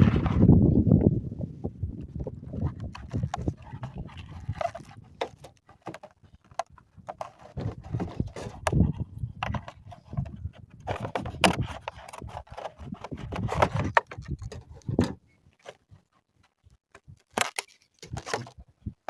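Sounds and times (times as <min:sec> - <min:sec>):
packaging rustling and scraping: 0:02.5 - 0:18.6.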